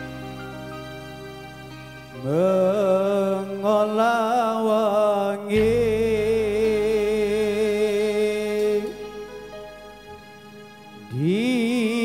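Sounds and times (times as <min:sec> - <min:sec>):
melodic held notes with vibrato: 0:00.0 - 0:04.1, 0:05.5 - 0:12.0
low sustained bass: 0:00.0 - 0:04.8, 0:05.5 - 0:12.0.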